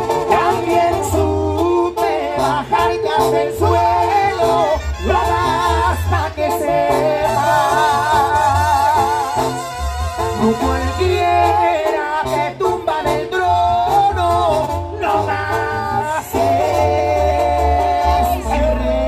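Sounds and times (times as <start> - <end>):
live latin band music: 0.0 - 19.0.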